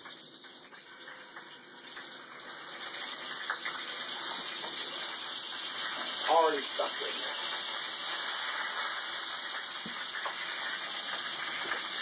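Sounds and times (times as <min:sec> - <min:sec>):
beef sizzling in skillet: 0:00.0 - 0:12.0.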